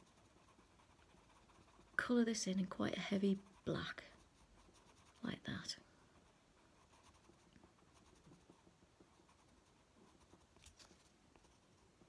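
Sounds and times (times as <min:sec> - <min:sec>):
pencil scratching on paper: 0:00.0 - 0:11.8.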